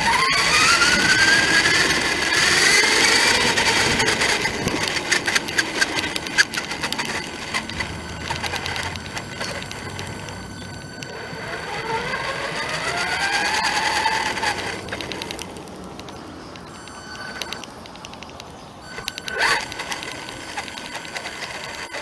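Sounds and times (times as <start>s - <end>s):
toy car motor whining: 0.0s - 15.8s, 16.6s - 17.8s, 18.8s - 22.0s
sharp clicks and crackles: 0.0s - 22.0s.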